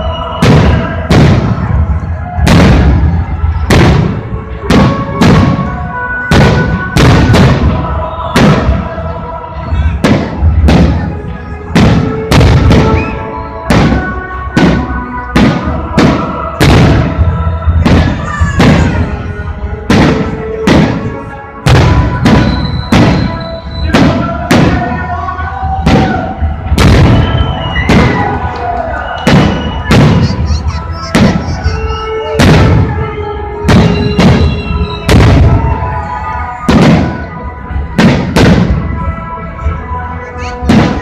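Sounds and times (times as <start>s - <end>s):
music: 0.0s - 41.0s
fireworks booming: 0.3s - 9.1s, 9.7s - 25.0s, 25.6s - 35.9s, 36.6s - 39.1s, 40.6s - 41.0s.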